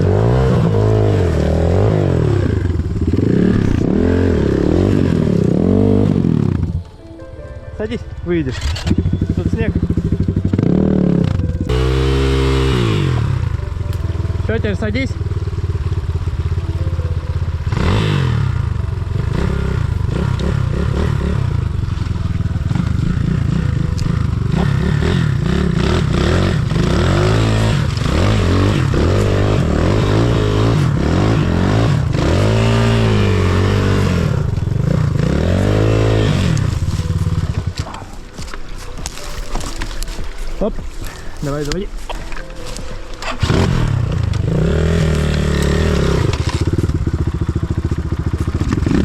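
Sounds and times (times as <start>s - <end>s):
motorcycle engine revving: 0.0s - 7.1s, 7.8s - 49.0s.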